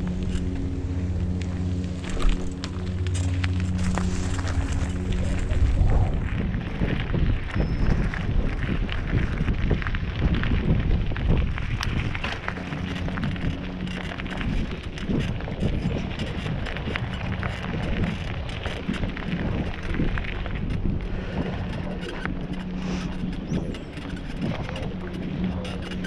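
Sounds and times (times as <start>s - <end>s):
bike tyres crackling on dirt: 0.0s - 26.0s
wind buffeting microphone: 0.0s - 26.0s.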